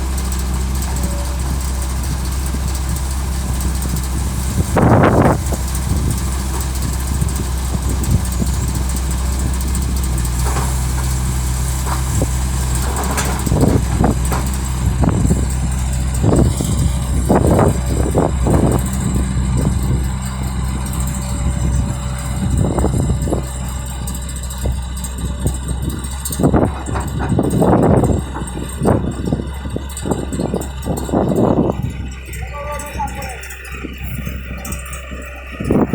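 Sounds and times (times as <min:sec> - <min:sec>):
heavy diesel engines running: 0:00.0 - 0:35.9.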